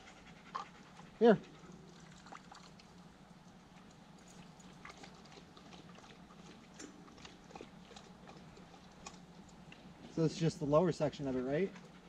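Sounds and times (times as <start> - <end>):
dog lapping water: 0.0 - 10.2
low steady hum: 0.0 - 12.0.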